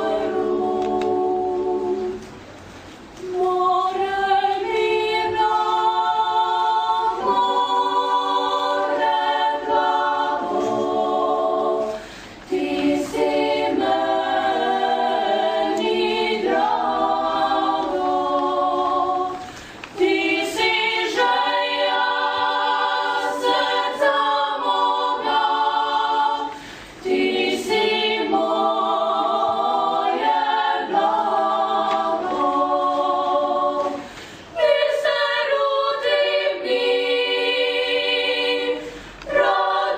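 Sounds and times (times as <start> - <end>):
young singers singing a cappella: 0.0 - 39.9.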